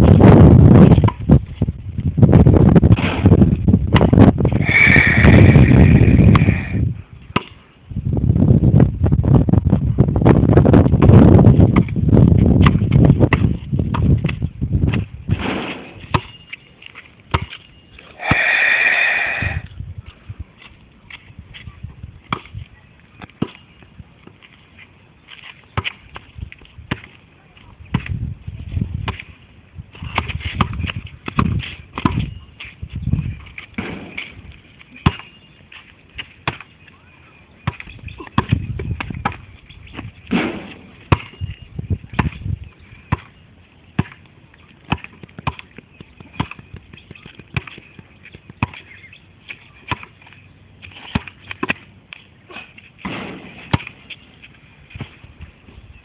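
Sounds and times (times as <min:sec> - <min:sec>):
basketball bouncing on hard ground: 0:00.0 - 0:06.7, 0:07.3 - 0:07.6, 0:09.6 - 0:18.6, 0:20.6 - 0:24.6, 0:25.3 - 0:27.3, 0:27.9 - 0:36.9, 0:37.6 - 0:55.8.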